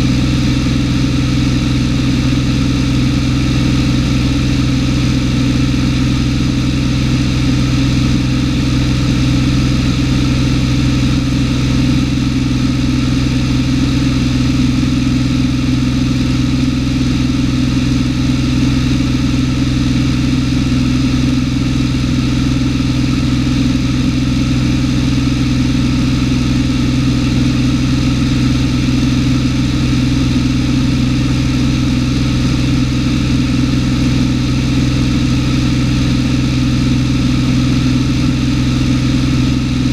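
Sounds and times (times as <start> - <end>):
light aircraft engine in flight: 0.0 - 39.9.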